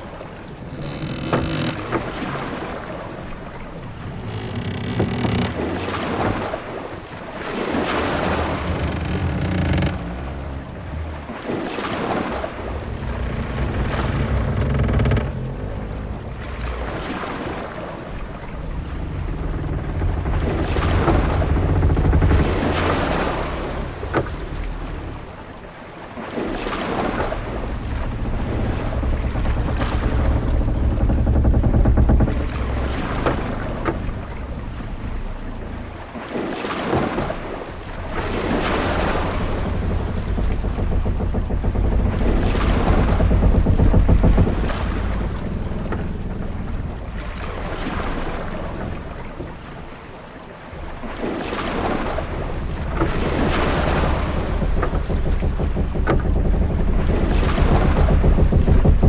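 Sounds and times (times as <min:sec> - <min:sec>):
low wind rumble: 0:00.0 - 0:25.8, 0:26.4 - 0:59.0
waves washing: 0:00.0 - 0:59.0.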